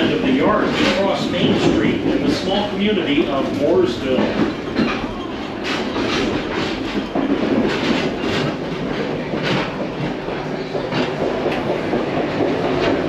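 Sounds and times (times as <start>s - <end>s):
train cars rumbling: 0.0s - 13.0s
wheels clacking over rails: 0.0s - 13.0s.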